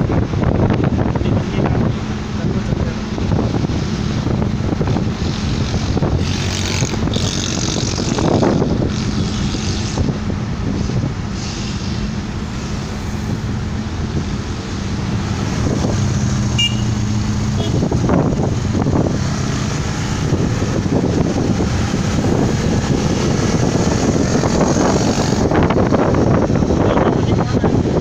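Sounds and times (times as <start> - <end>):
car engine hum: 0.0 - 28.0
tyre and road noise: 0.0 - 28.0
motorcycle passing: 3.6 - 27.1.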